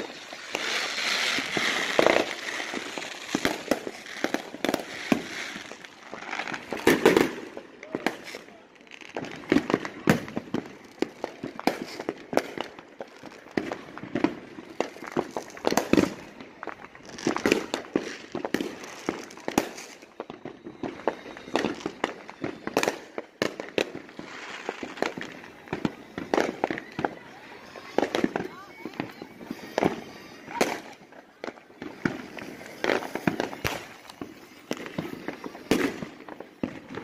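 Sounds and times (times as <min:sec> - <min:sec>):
fireworks bangs and crackling pops: 0:00.0 - 0:37.0.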